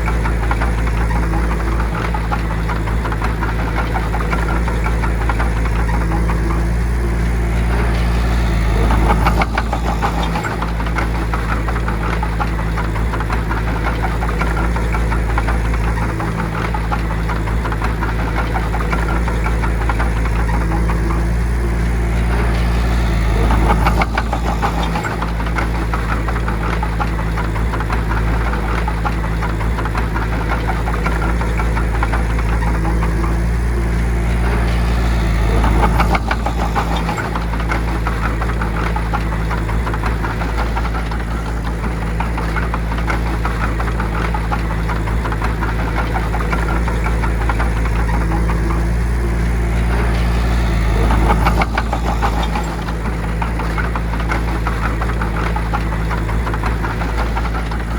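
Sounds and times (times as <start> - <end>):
bulldozer diesel engine clattering: 0.0 - 57.9.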